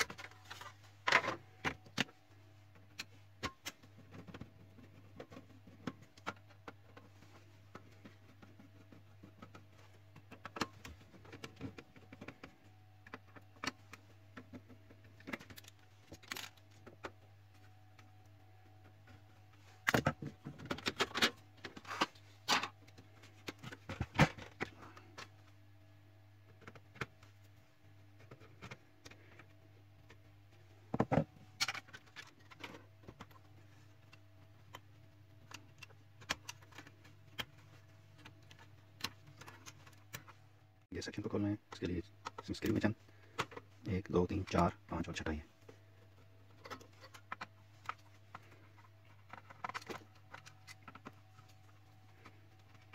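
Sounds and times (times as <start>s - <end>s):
plastic parts and tools clicking: 0.0s - 40.4s, 41.4s - 52.9s.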